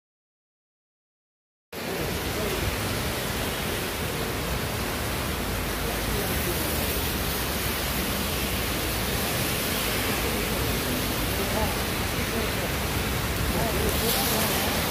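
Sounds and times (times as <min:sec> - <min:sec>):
car tyres swishing through water: 0:01.8 - 0:14.9
heavy rain on street: 0:01.8 - 0:14.9.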